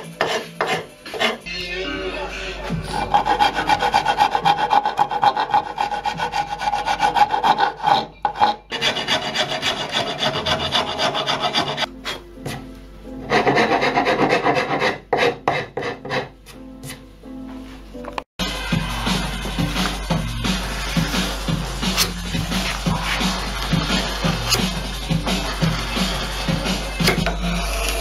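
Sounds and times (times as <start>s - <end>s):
rasp filing wood: 0.0s - 1.5s, 2.9s - 12.2s, 13.2s - 16.3s, 18.4s - 28.0s.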